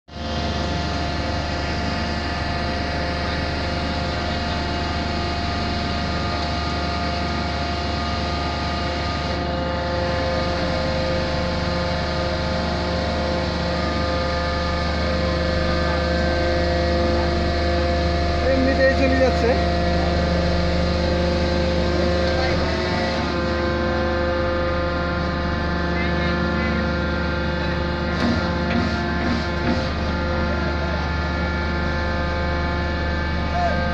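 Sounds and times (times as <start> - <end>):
heavy machinery engine drone: 0.0 - 33.9.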